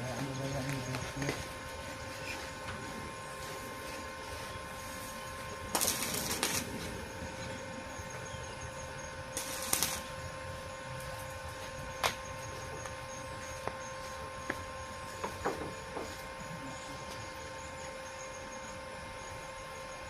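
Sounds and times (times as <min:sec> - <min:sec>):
arc welding crackling: 0:00.0 - 0:19.7
steady hum: 0:00.0 - 0:20.0.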